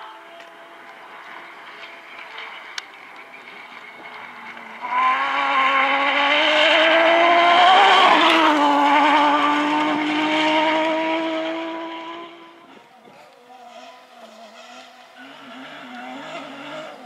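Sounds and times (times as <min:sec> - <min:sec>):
buggy engine passing by: 0:00.0 - 0:17.0.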